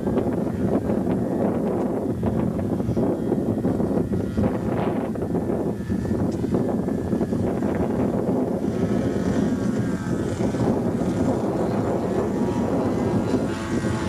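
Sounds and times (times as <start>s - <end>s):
model plane propeller motor: 0.0s - 14.0s
wind rumble on microphone: 0.0s - 14.0s.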